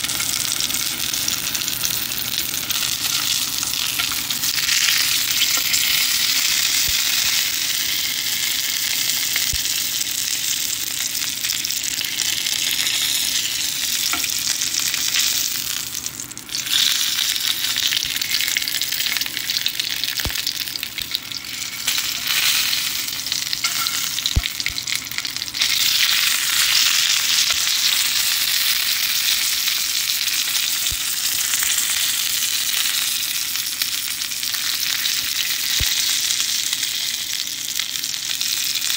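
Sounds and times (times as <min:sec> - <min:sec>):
steak sizzling in a frying pan: 0:00.0 - 0:38.9.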